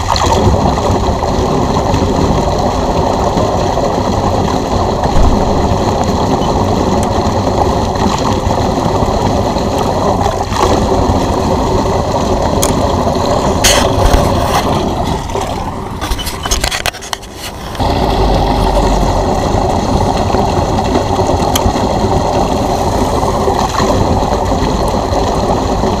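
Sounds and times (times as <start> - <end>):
pool pump running: 0.0 - 26.0.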